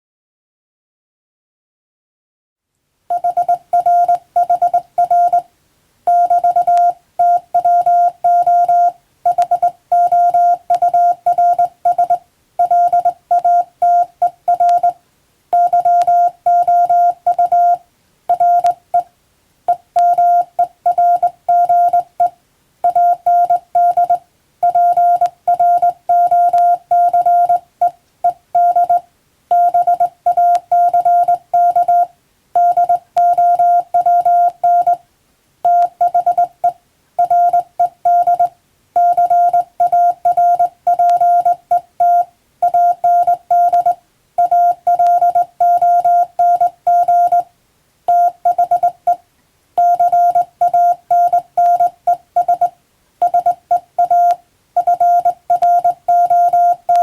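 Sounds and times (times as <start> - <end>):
morse code beeps: 3.1 - 5.5, 6.1 - 19.1, 19.7 - 35.0, 35.7 - 47.5, 48.1 - 49.2, 49.8 - 57.0.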